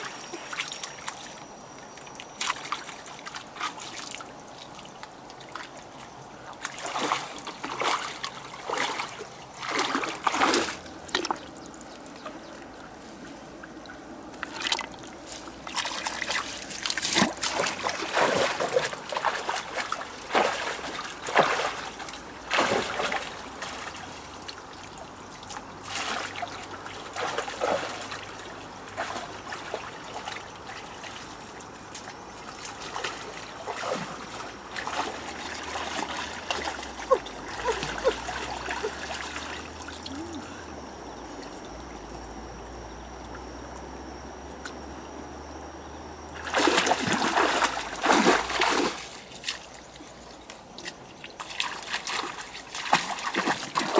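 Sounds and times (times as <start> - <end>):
water splashing and trickling: 0.0 - 42.1, 46.4 - 53.9.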